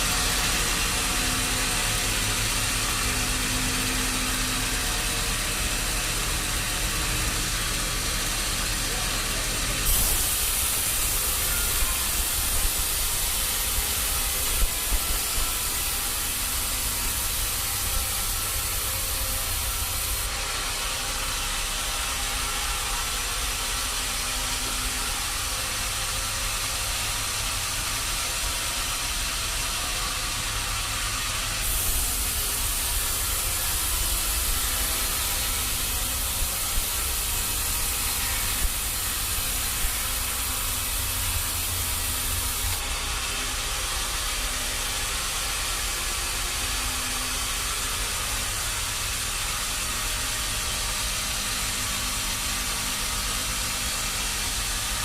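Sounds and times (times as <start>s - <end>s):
sawmill machinery running: 0.0s - 55.0s
loud high hiss: 5.4s - 55.0s.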